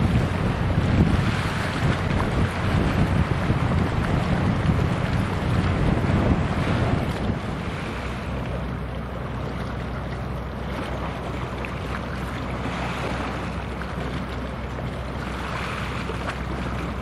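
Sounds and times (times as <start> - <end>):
ship engine drone: 0.0 - 17.0
water noise: 0.0 - 17.0
wind: 0.0 - 17.0.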